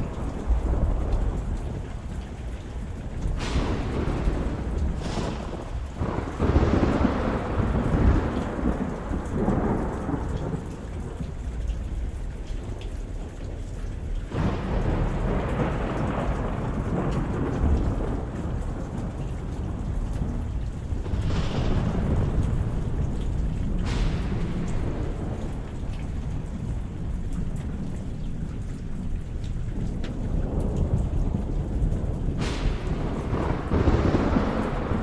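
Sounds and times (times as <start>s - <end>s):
steady rain: 0.0s - 35.0s
thunder cracking and rumbling: 0.0s - 35.0s.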